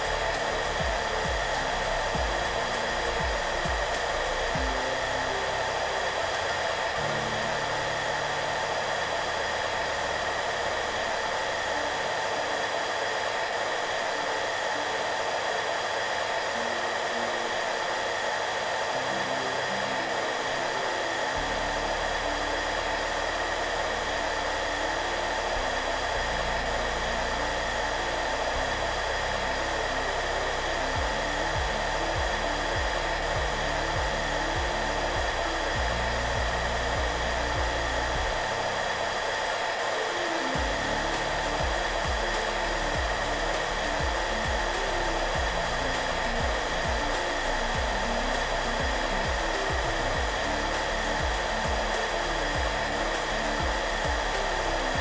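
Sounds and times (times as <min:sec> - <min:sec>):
hair dryer running: 0:00.0 - 0:55.0
soft music: 0:00.0 - 0:55.0.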